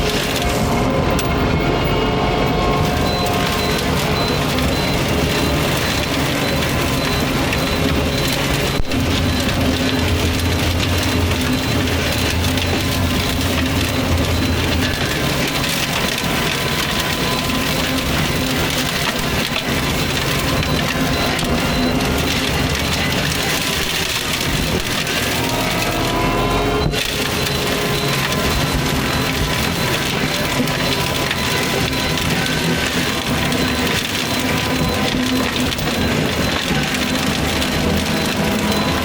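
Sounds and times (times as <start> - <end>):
machine engine running: 0.0 - 39.0
mulcher grinding wood: 0.0 - 39.0.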